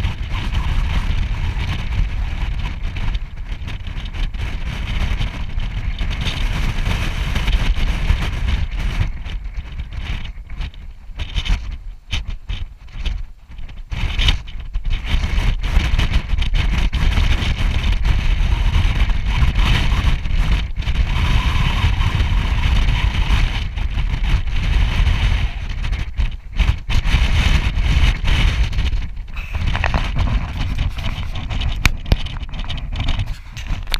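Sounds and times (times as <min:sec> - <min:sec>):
strong wind buffeting microphone: 0:00.0 - 0:33.9.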